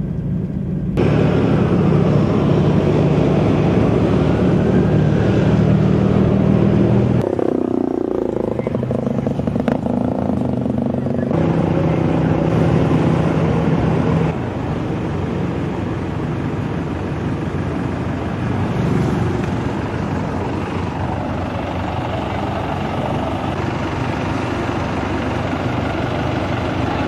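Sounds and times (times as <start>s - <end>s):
road noise: 0.0s - 27.0s
vehicle engine running: 0.0s - 27.0s.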